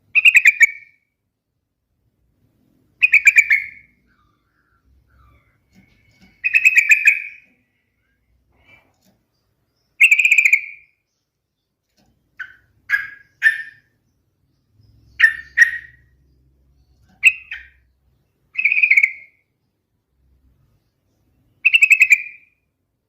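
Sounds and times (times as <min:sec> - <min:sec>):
bird singing rapid notes: 0:00.0 - 0:01.1, 0:02.9 - 0:08.4, 0:09.2 - 0:19.7, 0:20.7 - 0:22.7.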